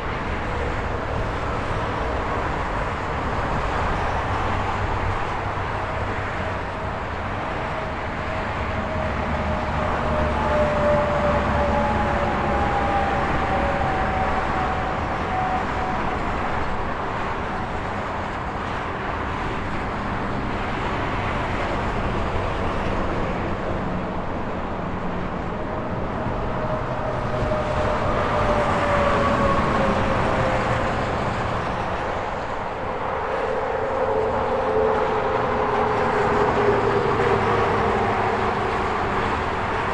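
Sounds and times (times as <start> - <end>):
highway traffic: 0.0 - 39.9
passing vehicle whine: 0.0 - 39.9.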